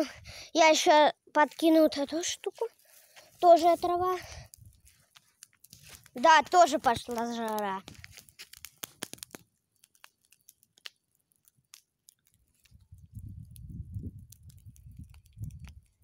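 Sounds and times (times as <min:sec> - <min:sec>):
campfire crackling: 0:00.0 - 0:16.0
sharp fire pops: 0:03.2 - 0:16.0.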